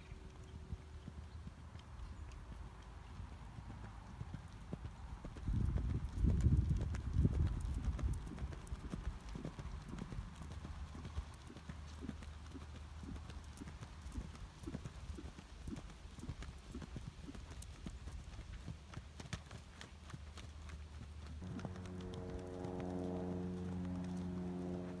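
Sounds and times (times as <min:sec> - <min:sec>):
horse hoofbeats on sand: 0:00.4 - 0:24.8.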